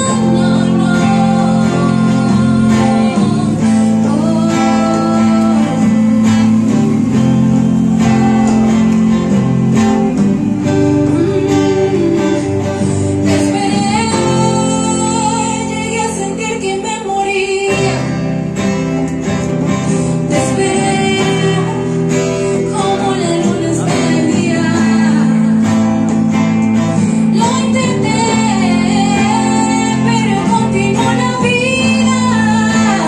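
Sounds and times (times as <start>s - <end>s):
woman singing: 0.0s - 18.9s, 20.0s - 33.0s
acoustic guitar and band: 0.0s - 33.0s.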